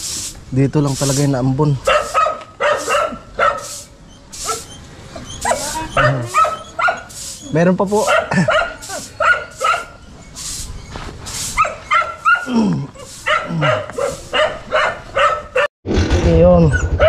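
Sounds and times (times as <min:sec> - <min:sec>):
dog barking and yipping: 0:01.8 - 0:15.7
dog whining: 0:01.9 - 0:15.7.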